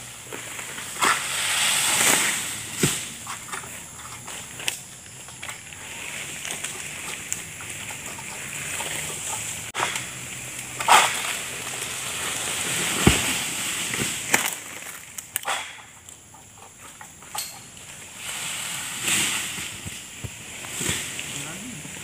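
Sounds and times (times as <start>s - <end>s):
palm fronds rustling and crackling: 0.0s - 22.0s.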